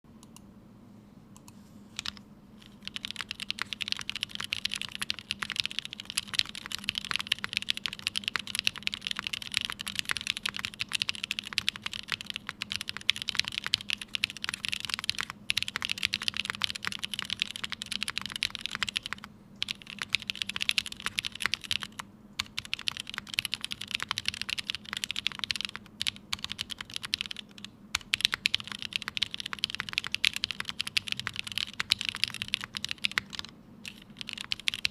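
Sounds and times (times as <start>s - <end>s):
mechanical keyboard typing: 2.0s - 34.9s.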